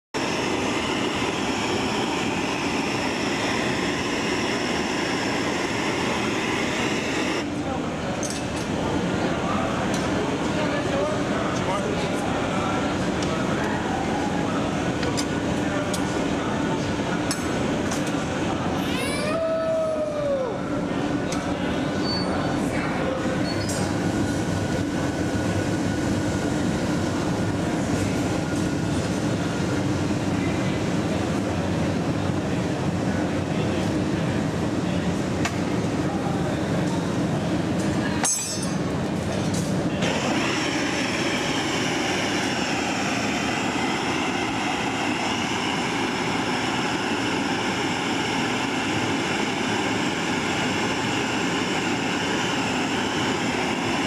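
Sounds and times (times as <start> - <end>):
gas burners roaring: 0.2 - 54.0.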